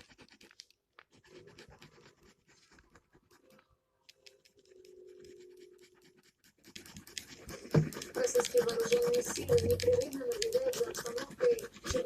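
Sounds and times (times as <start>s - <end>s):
gel pen scratching on paper: 0.0s - 12.0s.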